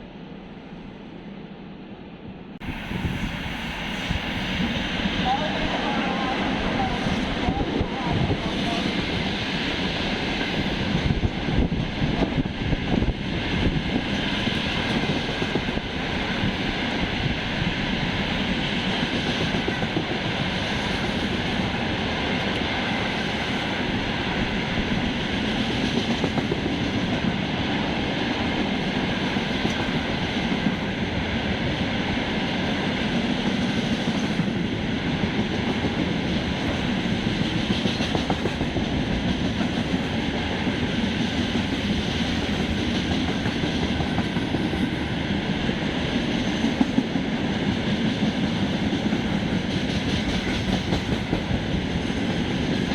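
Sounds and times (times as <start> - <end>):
train wheels rumbling on rails: 2.6 - 52.9.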